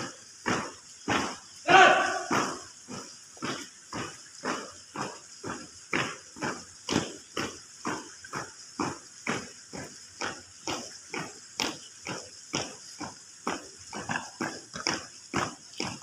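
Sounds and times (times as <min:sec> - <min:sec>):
marching footsteps: 0:00.0 - 0:16.0.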